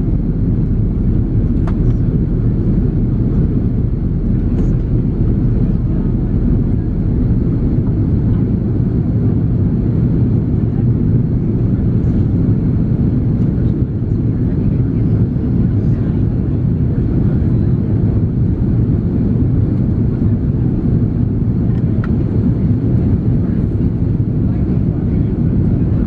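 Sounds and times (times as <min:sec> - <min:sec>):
airplane cabin engine and airflow rush: 0:00.0 - 0:26.0.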